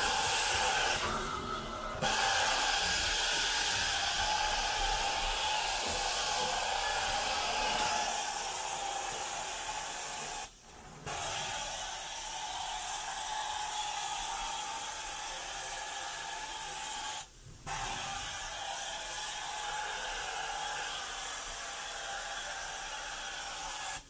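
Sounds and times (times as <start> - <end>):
carpet cleaner spraying and vacuuming: 0.0 - 24.0.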